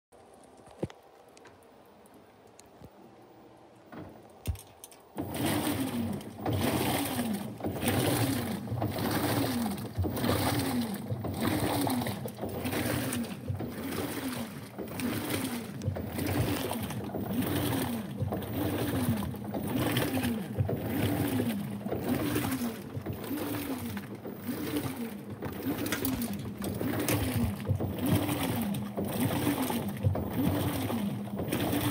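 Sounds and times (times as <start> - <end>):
water sloshing: 0.2 - 31.9
washing machine motor whirring: 3.4 - 31.9.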